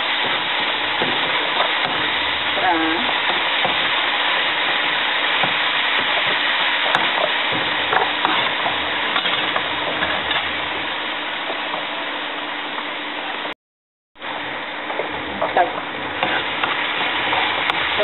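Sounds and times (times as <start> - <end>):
ginger sizzling in hot oil: 0.0 - 13.5, 14.2 - 18.0.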